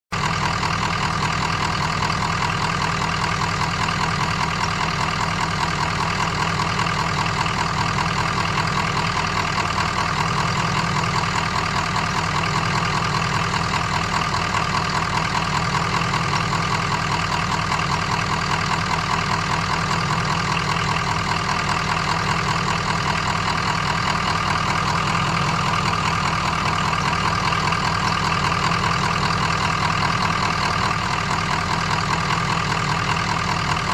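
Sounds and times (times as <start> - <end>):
truck engine idling: 0.1 - 33.9.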